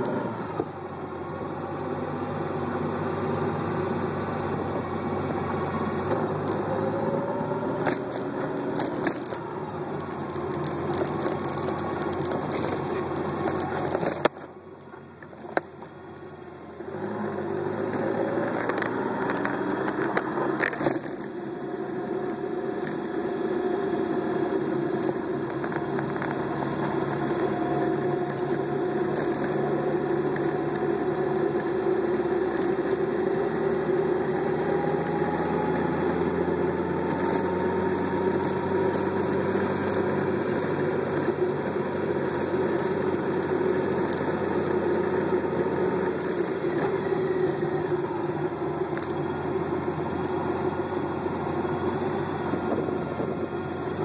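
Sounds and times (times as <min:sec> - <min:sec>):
car engine: 0:00.0 - 0:54.0
tyre and wind noise: 0:06.0 - 0:14.6, 0:16.9 - 0:54.0.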